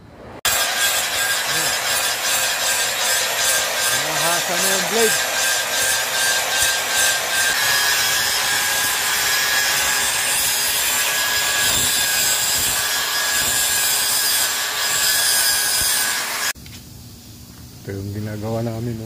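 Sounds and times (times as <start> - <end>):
angle grinder grinding metal: 0.5 - 16.6.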